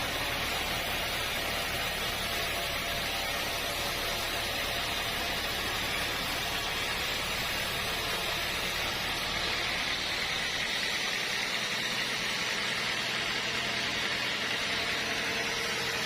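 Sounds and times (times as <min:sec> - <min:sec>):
saw hissing: 0:00.0 - 0:16.0.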